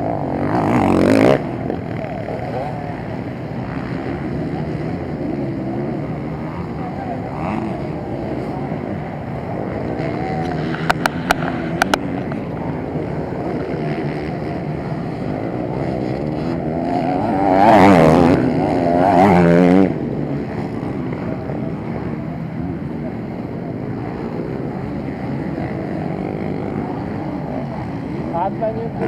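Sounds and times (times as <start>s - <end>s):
motocross bike engines: 0.0s - 29.0s
motorbike revving hard close by: 0.0s - 29.0s.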